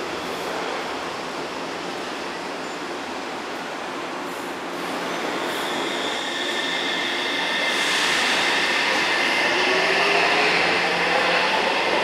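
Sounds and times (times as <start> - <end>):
electric train rumble and hiss: 0.0 - 12.0.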